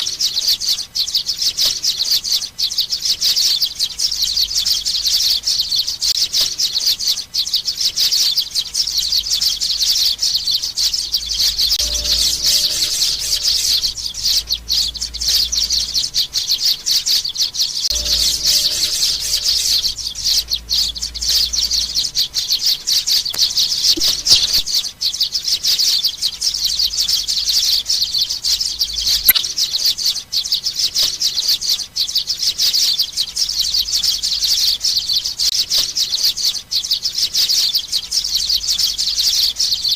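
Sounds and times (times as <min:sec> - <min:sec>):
young sparrows chirping: 0:00.0 - 0:39.9.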